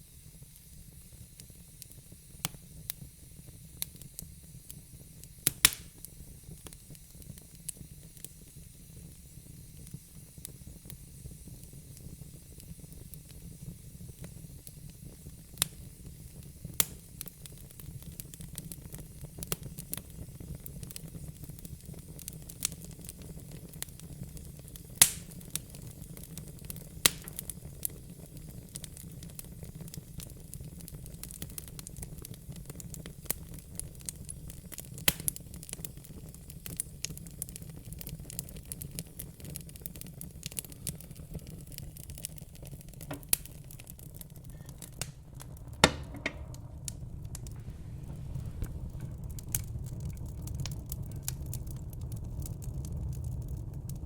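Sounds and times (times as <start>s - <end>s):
fire crackling and popping: 0.0s - 54.0s
low steady background noise: 0.0s - 54.0s.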